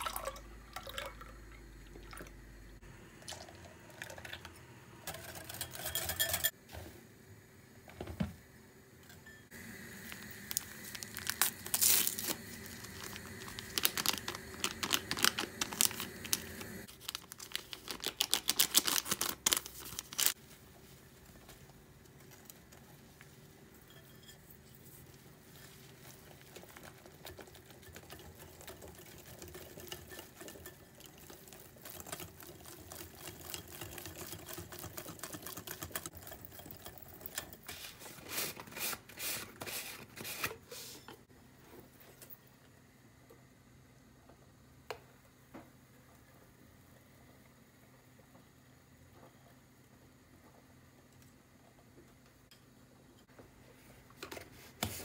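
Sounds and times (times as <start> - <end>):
appliance hum: 0.0 - 55.0.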